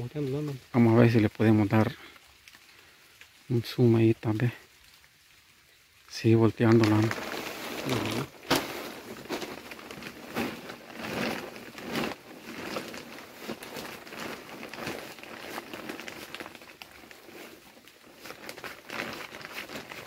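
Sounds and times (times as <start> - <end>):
dry plants rustling and crackling: 0.0 - 20.0.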